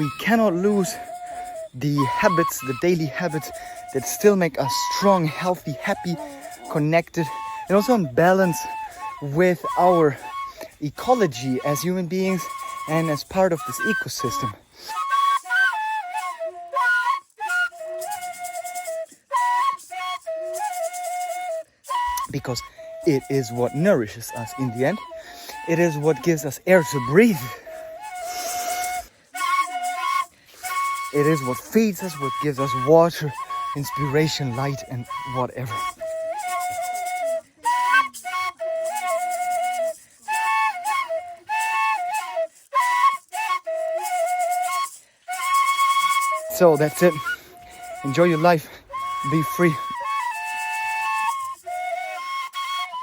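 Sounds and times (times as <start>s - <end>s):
solo flute melody: 0.0s - 53.0s.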